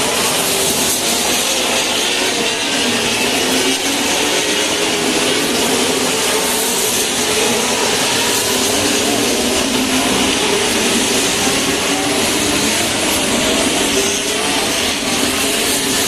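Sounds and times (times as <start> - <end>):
racing car engines: 0.0 - 16.0.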